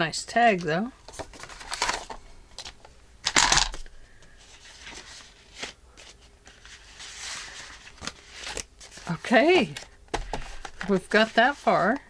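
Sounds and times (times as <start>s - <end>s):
paper rustling: 1.0s - 12.0s.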